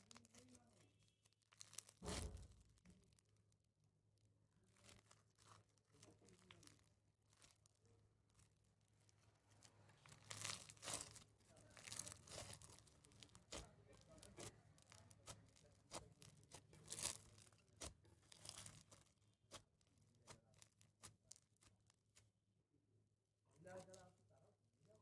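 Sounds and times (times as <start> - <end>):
crunchy slime crackling: 0.0 - 3.4, 4.7 - 22.3.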